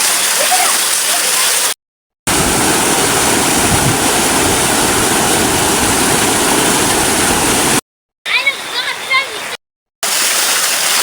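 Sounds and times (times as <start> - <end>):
stream rushing in flood: 0.0 - 11.0.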